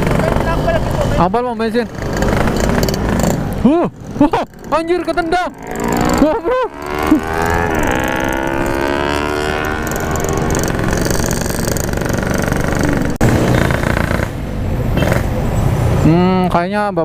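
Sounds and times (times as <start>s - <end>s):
motorcycle engine accelerating: 0.0s - 15.6s
wind and road noise: 0.0s - 17.0s.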